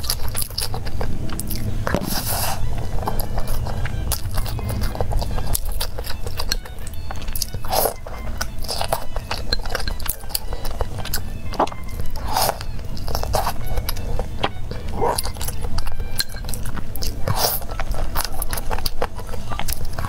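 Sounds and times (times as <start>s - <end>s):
background music: 0.0s - 20.0s
chewing with mouth smacks: 0.0s - 20.0s.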